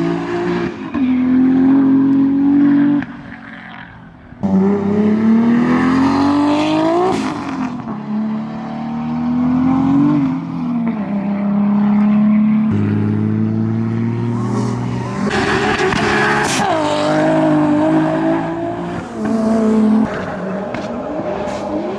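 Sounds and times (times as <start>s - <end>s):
car exhaust accelerating: 0.0s - 21.9s.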